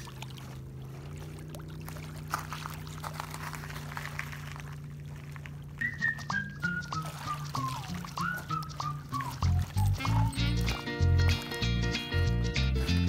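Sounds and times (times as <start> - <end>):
small waves lapping on rocks: 0.0 - 11.7
steady low hum: 0.0 - 13.0.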